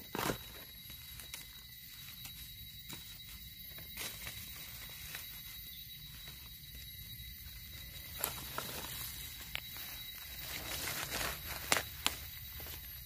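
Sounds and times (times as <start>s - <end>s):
clicks and rustles in leaves: 0.0s - 13.0s.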